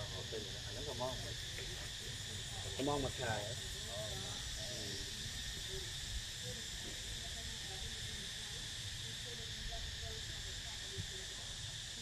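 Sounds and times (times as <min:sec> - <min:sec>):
faint voices: 0:00.0 - 0:12.0
insect chorus drone: 0:00.0 - 0:12.0.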